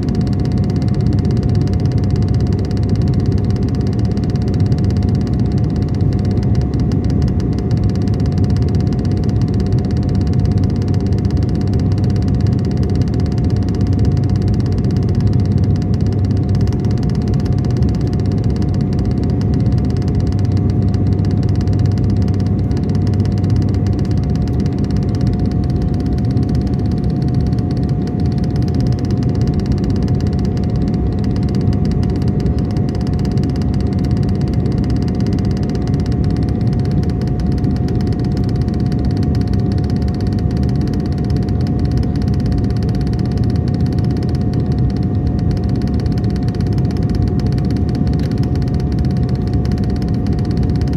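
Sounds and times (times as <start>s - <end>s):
airliner cabin engine drone: 0.0s - 50.9s
constant whine: 0.0s - 50.9s.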